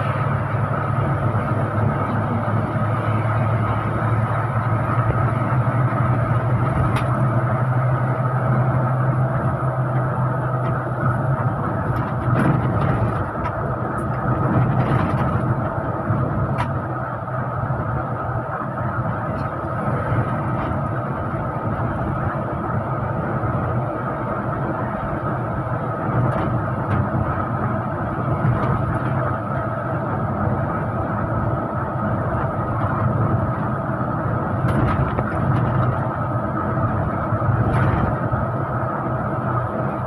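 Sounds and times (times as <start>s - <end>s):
bus engine and road noise: 0.0s - 40.0s.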